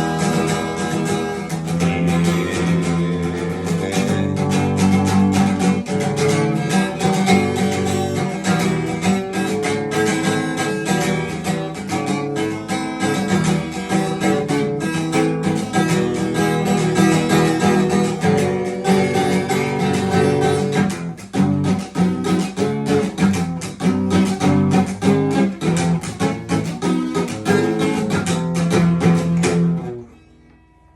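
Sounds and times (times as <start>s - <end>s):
acoustic guitar strumming: 0.0s - 30.9s.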